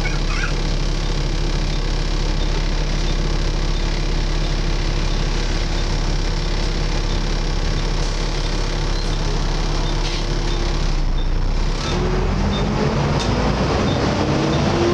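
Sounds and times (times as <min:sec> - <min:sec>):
bus diesel engine running: 0:00.0 - 0:14.9.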